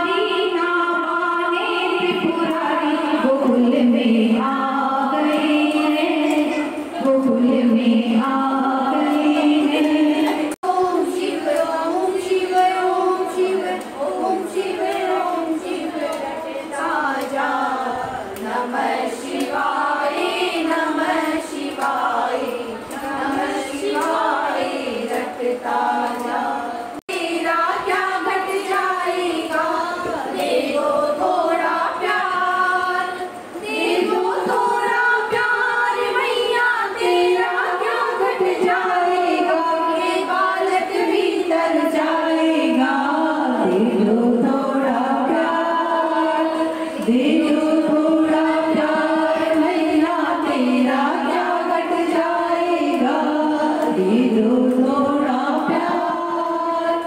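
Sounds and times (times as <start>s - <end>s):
women singing together: 0.0s - 57.0s.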